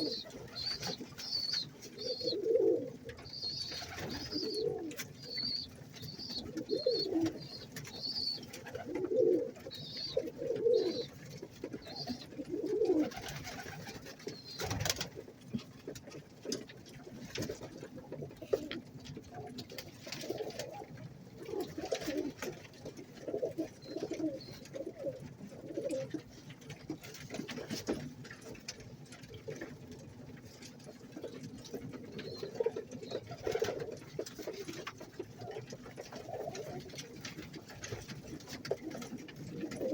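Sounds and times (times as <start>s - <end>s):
pigeons cooing: 0.0s - 28.7s, 30.4s - 39.9s.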